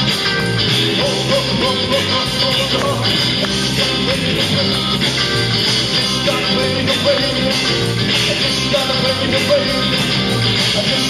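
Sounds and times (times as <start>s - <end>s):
electric guitar: 0.0s - 11.0s
man singing rock: 0.0s - 11.0s.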